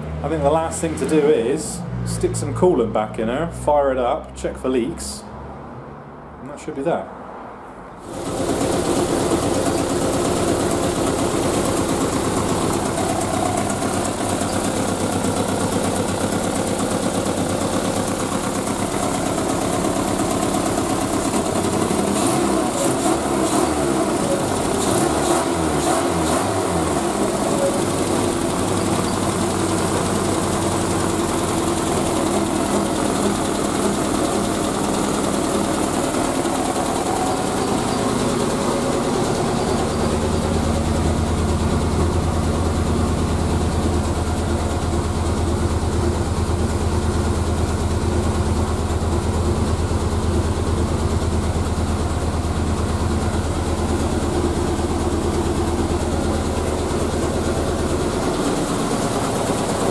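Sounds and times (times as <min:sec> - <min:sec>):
car engine idling: 0:08.0 - 0:59.9.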